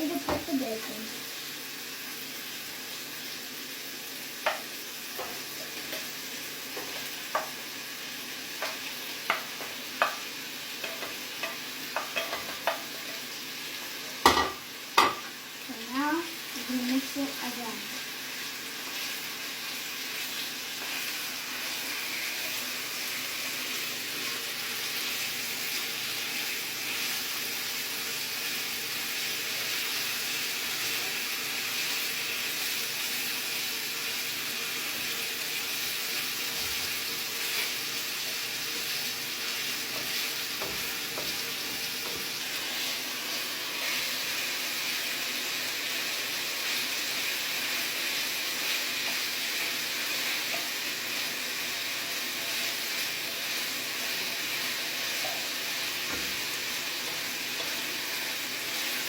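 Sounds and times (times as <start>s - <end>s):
bacon sizzling in a pan: 0.0s - 59.0s.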